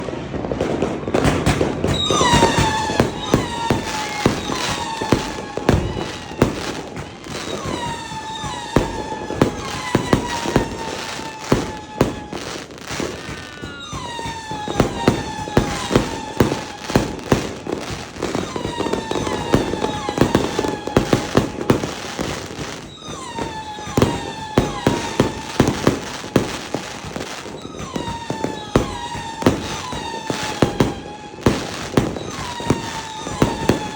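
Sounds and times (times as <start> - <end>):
fireworks pops and bangs: 0.0 - 33.9
fireworks whistling: 0.0 - 33.9.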